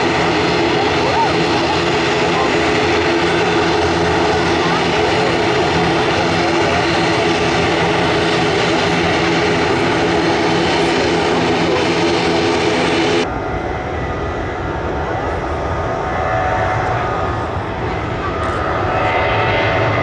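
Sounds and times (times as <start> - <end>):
jet airliner engines roaring: 0.0 - 20.0.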